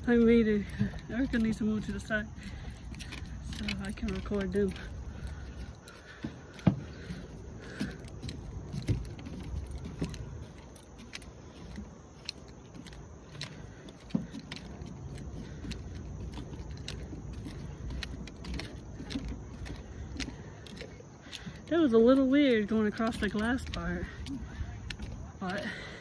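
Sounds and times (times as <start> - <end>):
clicks and knocks on wooden planks: 0.0 - 26.0
footsteps on wooden deck: 0.0 - 26.0
wind rumble on microphone: 0.0 - 26.0.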